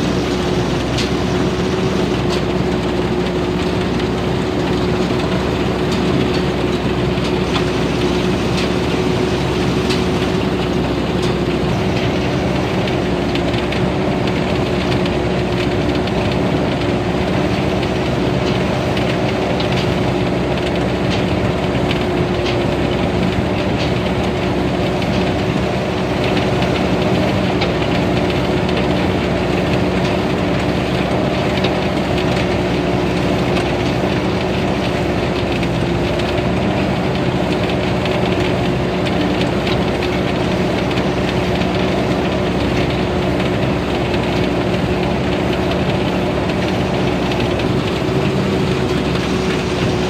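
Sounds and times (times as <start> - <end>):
combine harvester engine humming: 0.0 - 50.0.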